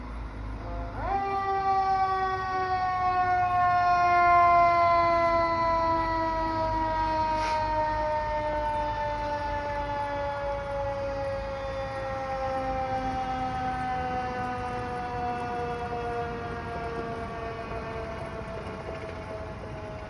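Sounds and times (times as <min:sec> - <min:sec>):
mechanical siren winding down: 0:00.5 - 0:20.0.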